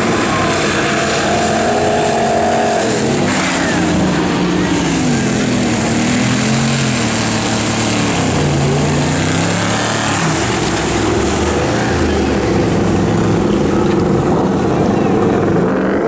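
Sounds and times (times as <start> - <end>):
loud rushing noise: 0.0 - 16.0
truck engine revving: 0.0 - 16.0.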